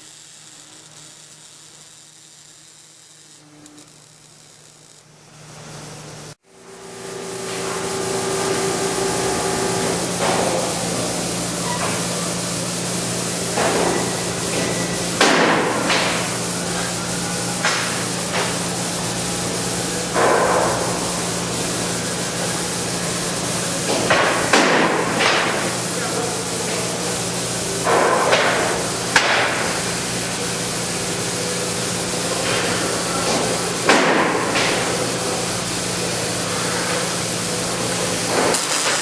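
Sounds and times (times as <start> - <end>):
arc welding crackling hiss: 0.0 - 39.0
electrical hum: 0.0 - 39.0.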